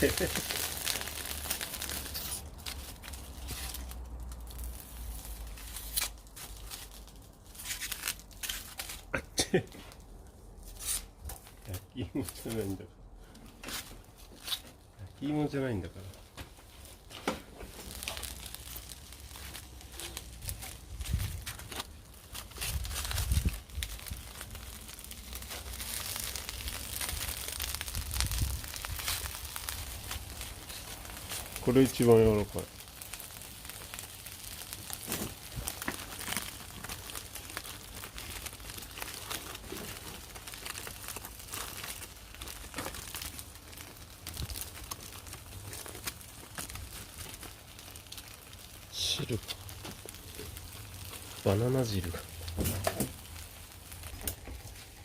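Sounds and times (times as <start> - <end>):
crinkling and crackling clicks: 0.0 - 55.0.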